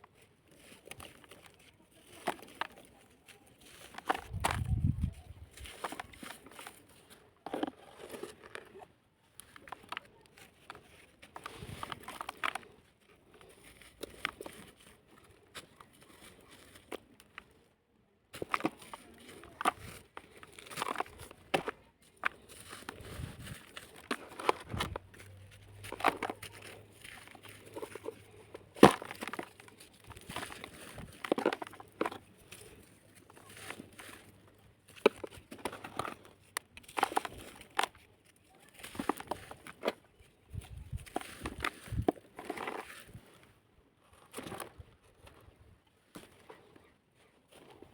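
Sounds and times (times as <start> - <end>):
dried dirt crumbling and crunching: 0.0 - 47.9.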